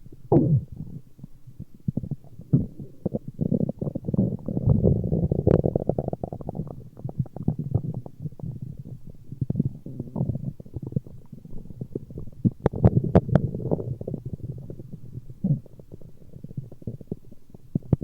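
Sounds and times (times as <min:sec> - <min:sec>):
stomach growling: 0:00.0 - 0:18.0.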